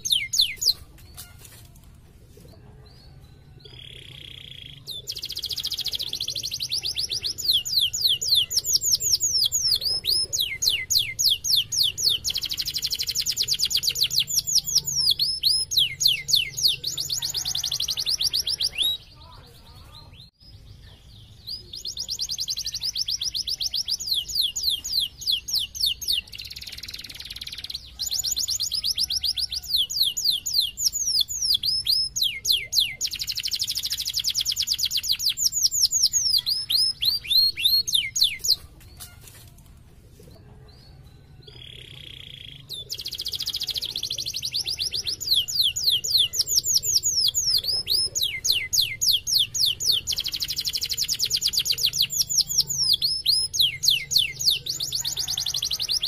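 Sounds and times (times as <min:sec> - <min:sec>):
canary singing trills: 0:00.0 - 0:01.5, 0:02.8 - 0:39.4, 0:40.6 - 0:56.0.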